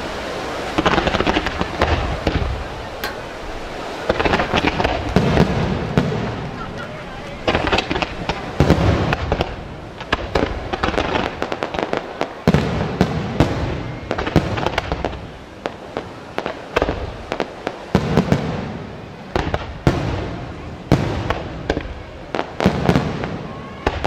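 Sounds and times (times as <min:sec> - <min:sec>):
continuous noisy din: 0:00.0 - 0:24.0
firework bangs: 0:00.0 - 0:24.0.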